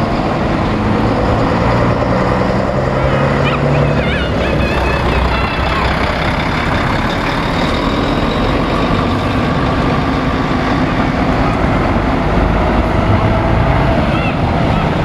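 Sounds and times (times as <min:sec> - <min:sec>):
heavy diesel truck engine rumble: 0:00.0 - 0:15.0.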